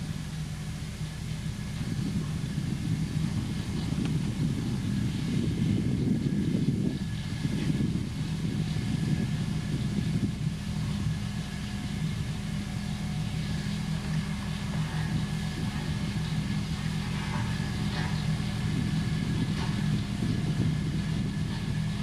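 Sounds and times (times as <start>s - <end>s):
diesel engine running at low revs: 0.0s - 22.0s.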